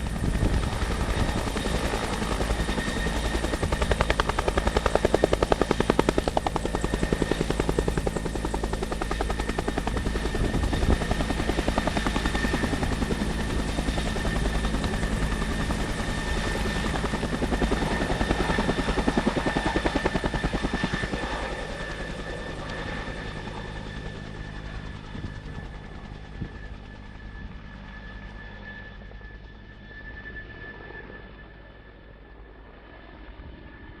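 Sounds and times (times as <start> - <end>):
helicopter rotor beating: 0.0 - 31.2
high helicopter whine: 0.0 - 34.0.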